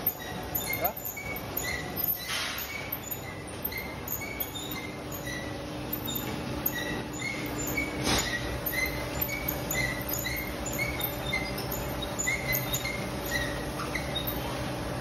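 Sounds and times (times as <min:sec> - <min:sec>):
machine humming and rumbling: 0:00.0 - 0:15.0
short high squeaks: 0:00.0 - 0:15.0.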